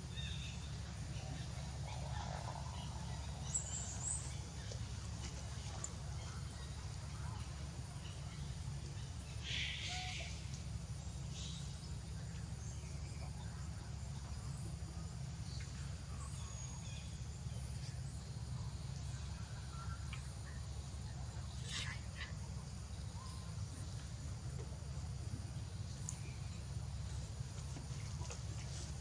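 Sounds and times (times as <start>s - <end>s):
faint bird chirps and calls: 0.0s - 24.8s.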